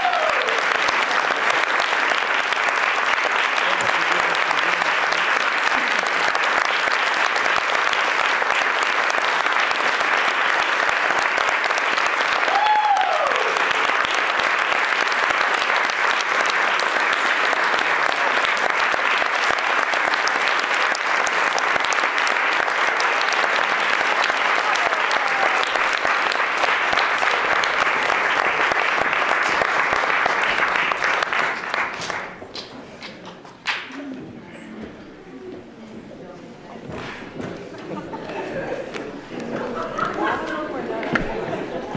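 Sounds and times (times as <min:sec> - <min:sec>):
audience applauding: 0:00.0 - 0:34.1.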